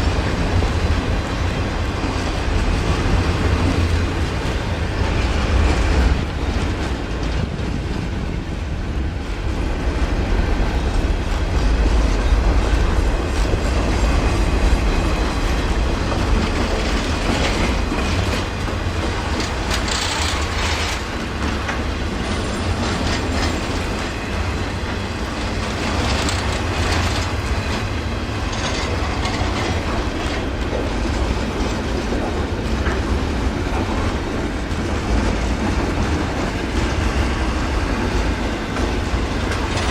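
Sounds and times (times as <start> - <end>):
clicking train wheels: 0.0 - 39.9
train cars rumbling past: 0.0 - 39.9.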